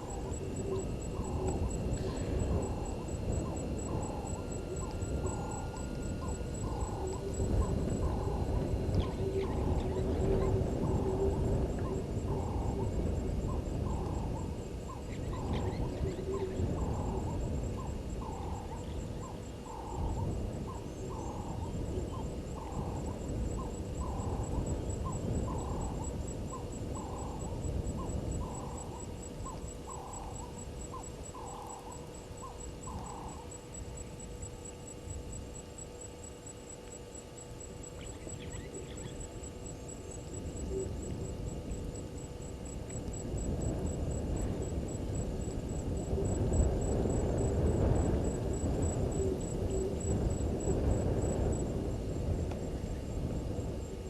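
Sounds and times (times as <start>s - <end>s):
low rumbling noise: 0.0s - 54.0s.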